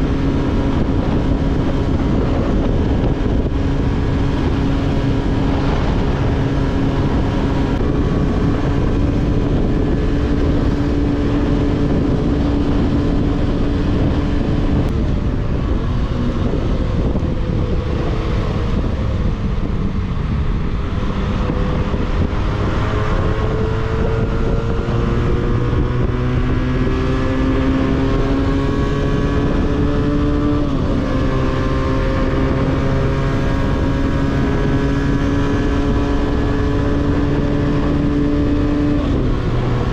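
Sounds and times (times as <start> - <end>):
heavy low rumble: 0.0 - 39.9
motorcycle engine revving: 0.0 - 39.9.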